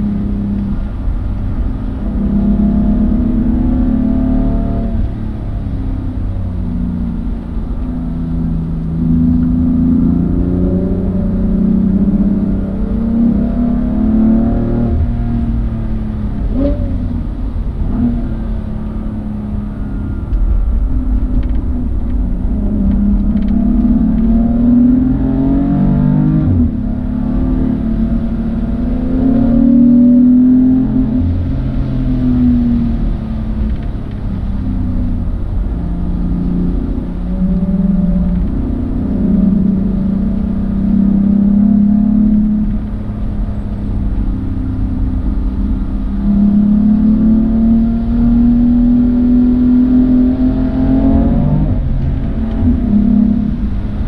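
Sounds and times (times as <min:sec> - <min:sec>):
car engine revving through gears: 0:00.0 - 0:54.0
tyre and road noise: 0:00.0 - 0:54.0.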